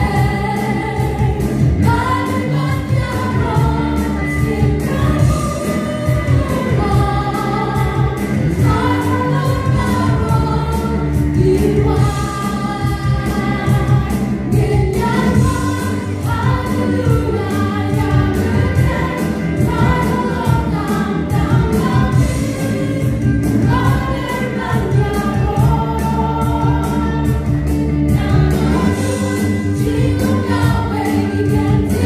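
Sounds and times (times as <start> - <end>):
acoustic guitar: 0.0 - 32.0
bass guitar: 0.0 - 32.0
drum kit: 0.0 - 32.0
women singing together: 0.0 - 32.0.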